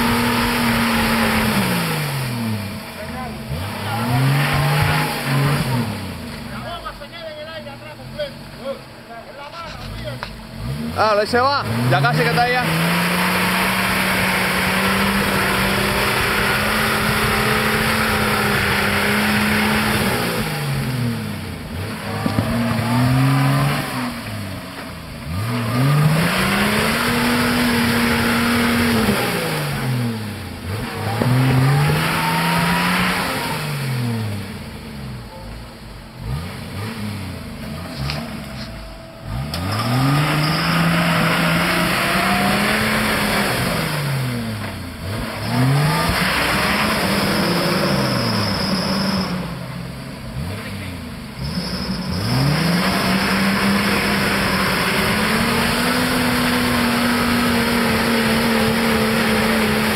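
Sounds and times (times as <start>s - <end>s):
engine revving hard: 0.0s - 6.2s, 9.9s - 35.2s, 36.1s - 59.9s.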